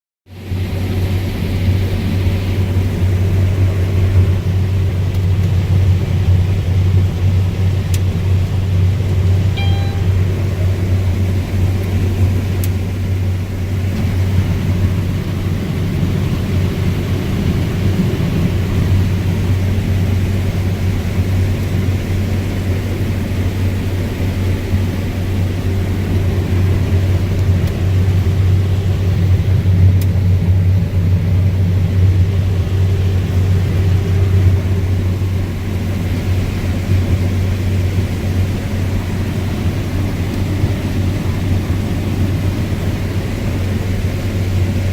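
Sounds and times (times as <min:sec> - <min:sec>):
combine harvester drone: 0:00.3 - 0:44.9.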